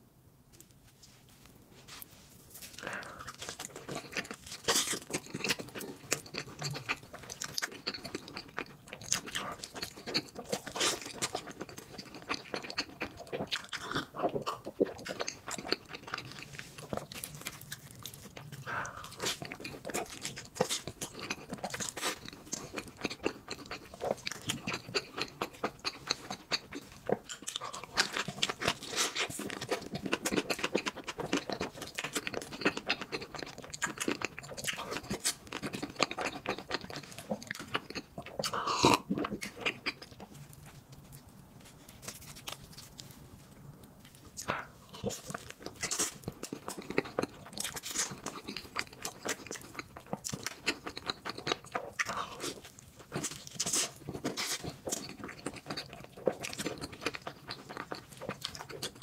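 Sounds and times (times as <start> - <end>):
person chewing: 1.8 - 59.0.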